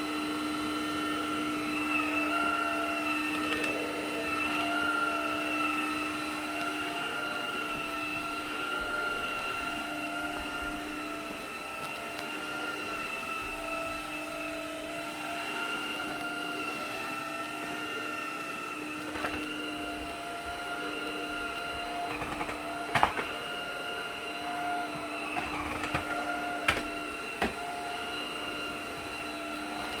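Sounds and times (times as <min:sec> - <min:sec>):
vacuum cleaner whine: 0:00.0 - 0:30.0.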